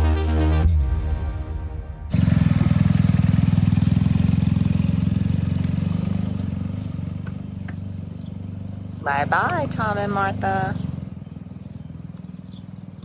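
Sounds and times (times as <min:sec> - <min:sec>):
motorcycle engine running: 0:01.9 - 0:13.0.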